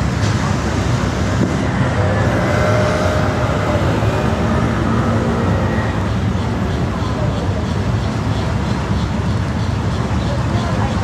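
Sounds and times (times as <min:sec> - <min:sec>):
road noise while driving: 0:00.0 - 0:11.0.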